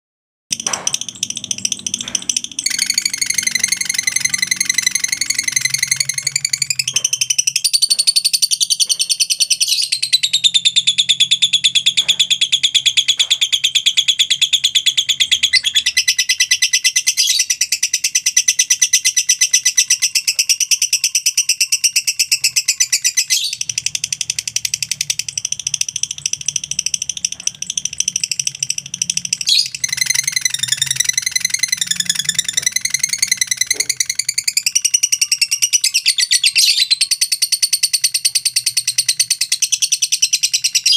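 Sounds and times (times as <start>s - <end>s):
bird chattering trill: 0.5s - 40.9s.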